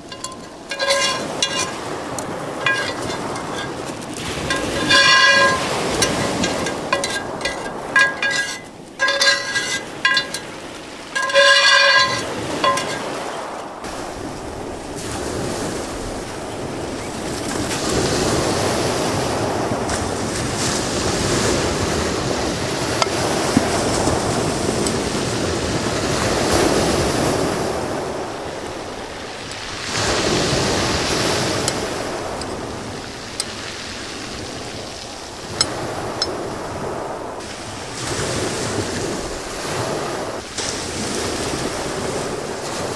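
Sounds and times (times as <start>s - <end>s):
sea waves surging onto beach: 0.0s - 42.9s.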